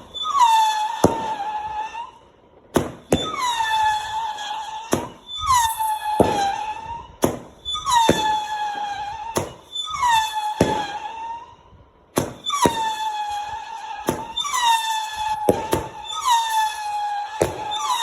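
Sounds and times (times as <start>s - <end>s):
howling whistle: 0.0s - 2.2s, 3.2s - 11.8s, 12.4s - 18.0s.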